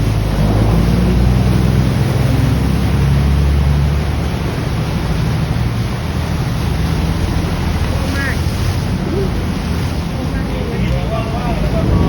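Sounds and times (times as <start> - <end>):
boat engine rumbling: 0.0 - 12.0
churned water washing: 0.0 - 12.0.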